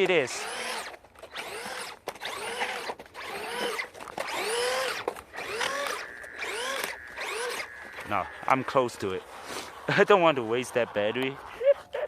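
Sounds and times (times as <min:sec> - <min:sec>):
electric motor whining: 0:00.0 - 0:11.7.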